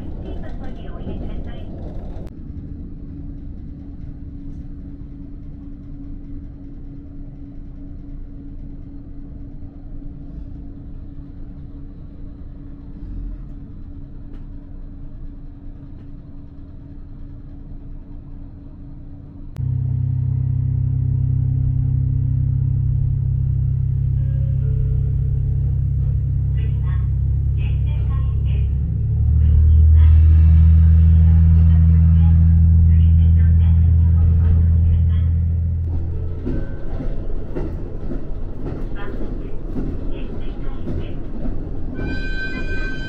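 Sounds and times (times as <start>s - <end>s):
diesel railcar engine rumbling: 0.0s - 43.0s.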